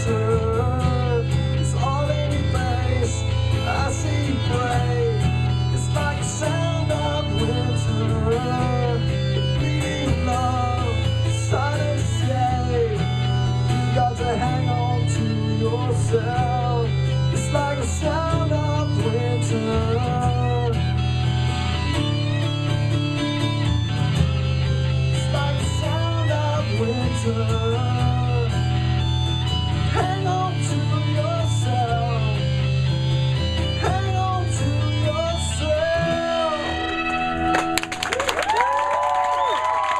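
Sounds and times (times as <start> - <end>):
low bass notes: 0.0 - 38.2
guitars: 0.0 - 39.9.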